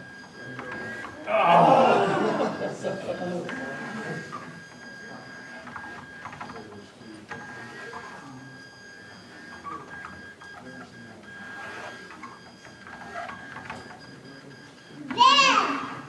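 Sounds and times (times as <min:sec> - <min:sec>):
robot gear motors whirring: 0:00.0 - 0:01.6, 0:03.4 - 0:15.2
faint room chatter: 0:00.0 - 0:16.0.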